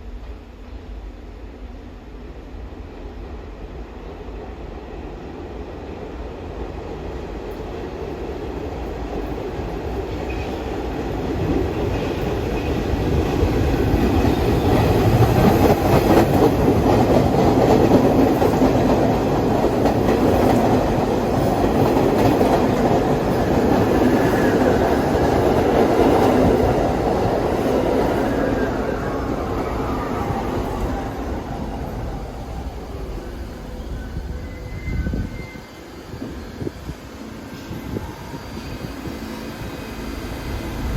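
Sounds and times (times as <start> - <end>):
subway train wheels clattering: 0.0 - 40.9.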